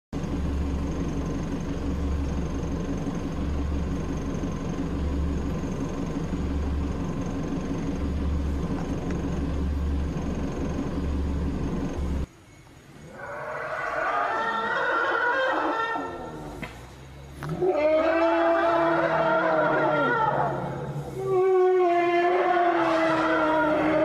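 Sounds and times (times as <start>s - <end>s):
vehicle engine idling: 0.2s - 13.1s, 15.3s - 24.0s.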